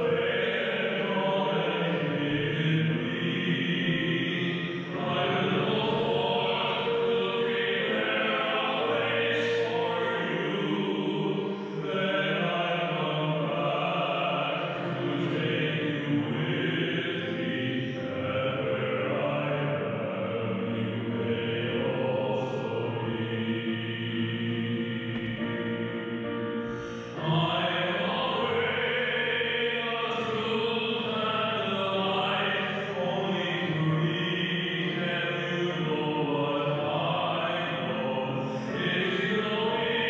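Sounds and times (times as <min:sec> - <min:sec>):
man singing liturgical song: 0:00.0 - 0:20.4, 0:27.2 - 0:40.0
keyboard piano accompaniment: 0:00.0 - 0:40.0.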